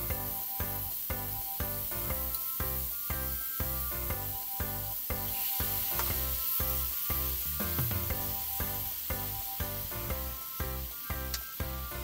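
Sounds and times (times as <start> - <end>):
background music with steady beat: 0.0 - 12.0
mushrooms sizzling in frying pan: 0.0 - 12.0.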